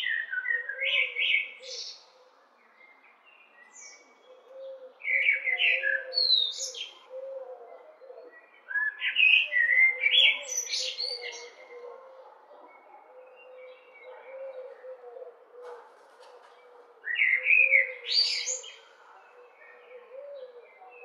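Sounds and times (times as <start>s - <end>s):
blackbird singing: 0.0s - 2.1s, 2.7s - 15.4s, 17.0s - 21.0s.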